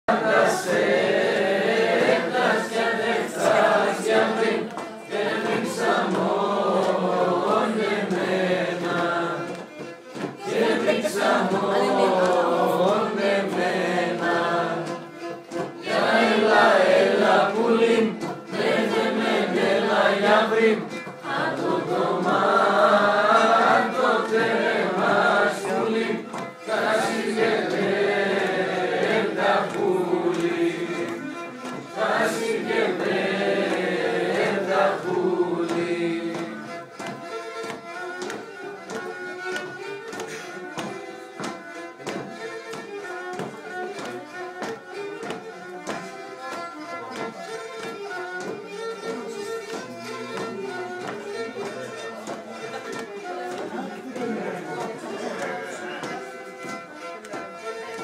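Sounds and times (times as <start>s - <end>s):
group of people singing: 0.0s - 46.1s, 47.1s - 58.0s.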